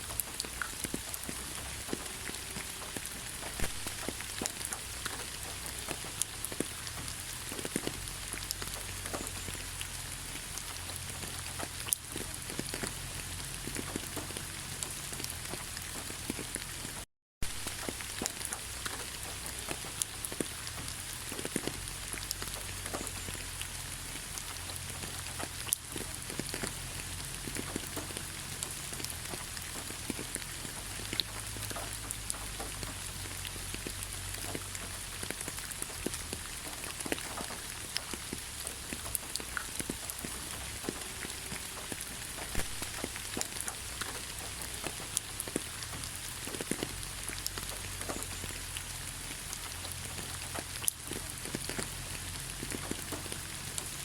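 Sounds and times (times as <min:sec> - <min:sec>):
sharp water drips: 0:00.0 - 0:54.0
steady rain hiss: 0:00.0 - 0:54.0.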